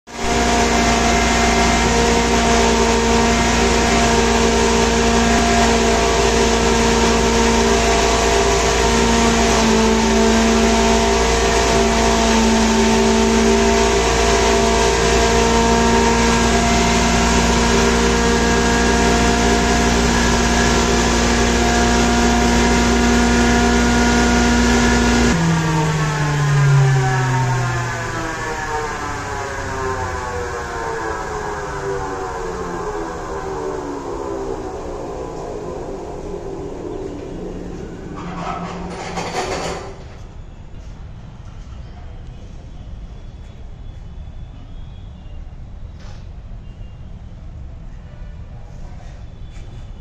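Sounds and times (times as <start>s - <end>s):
hammer mill whirring hum: 0.1s - 44.0s.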